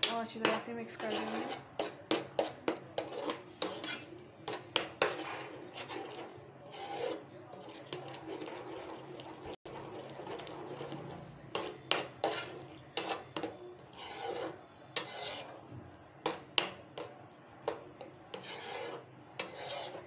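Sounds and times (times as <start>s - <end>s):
spatula scraping paste in a pan: 0.0s - 20.0s.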